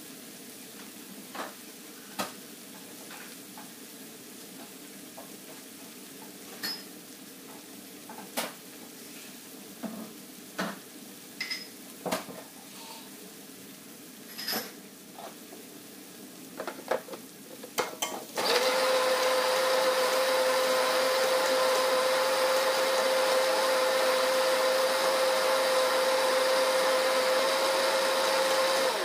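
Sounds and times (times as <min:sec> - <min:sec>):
chillies sizzling in a wok: 0:00.0 - 0:29.0.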